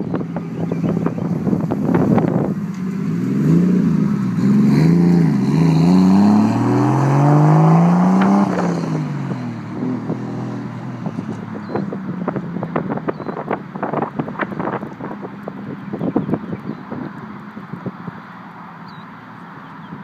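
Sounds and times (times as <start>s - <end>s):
car engine accelerating: 0.4s - 18.4s.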